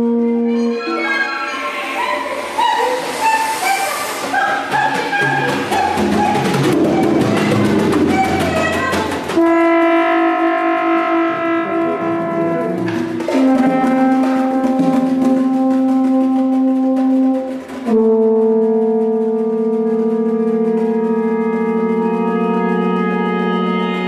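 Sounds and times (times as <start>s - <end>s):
flutes and brass ensemble: 0.0s - 24.0s.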